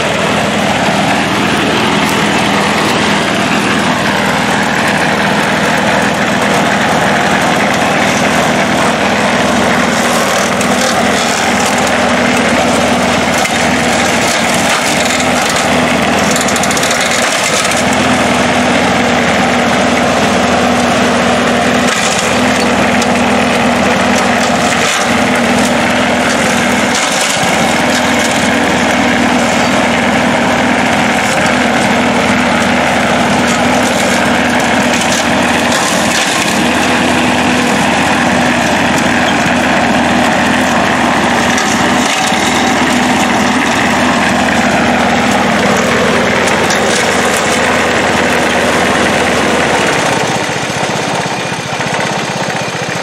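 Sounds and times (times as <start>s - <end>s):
blade cutting through brush: 0.0s - 53.0s
garden tractor engine running: 0.0s - 53.0s
mower engine under load: 0.0s - 53.0s.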